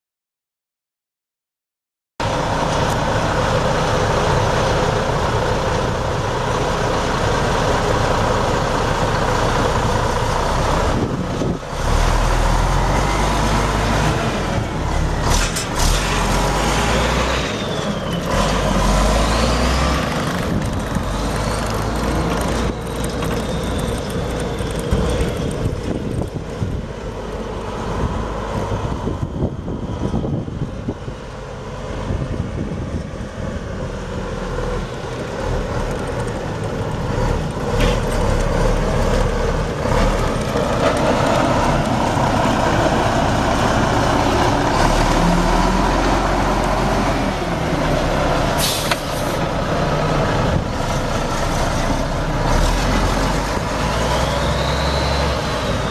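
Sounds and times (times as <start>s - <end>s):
diesel engine running: 2.2s - 55.9s.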